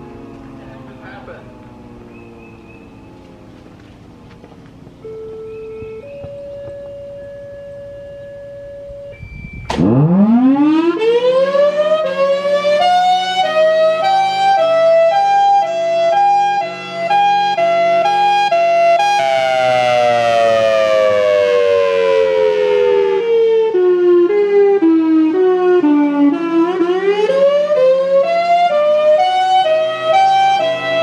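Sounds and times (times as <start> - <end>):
warning siren wailing: 0.0 - 31.0.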